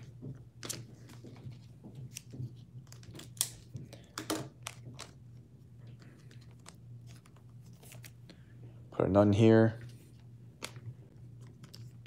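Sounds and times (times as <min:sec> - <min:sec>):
trading cards clicking and rustling: 0:00.0 - 0:08.4, 0:09.8 - 0:12.0
steady low hum: 0:00.0 - 0:12.0.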